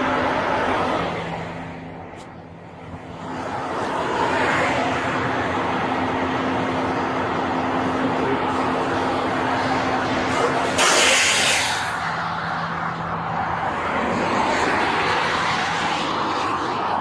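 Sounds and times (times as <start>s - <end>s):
constant low hum: 0.0s - 17.0s
road vehicle noise: 0.0s - 17.0s.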